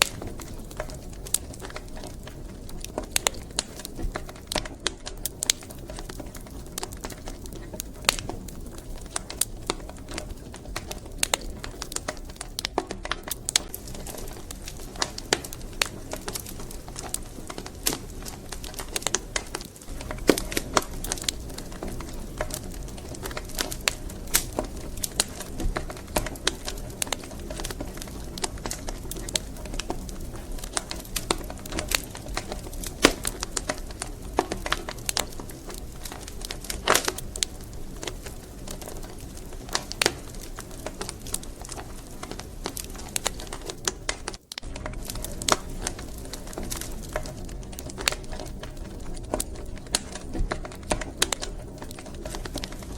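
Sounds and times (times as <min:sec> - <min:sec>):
fire pops and snaps: 0:00.0 - 0:52.9
low rumble of burning logs: 0:00.0 - 0:52.9.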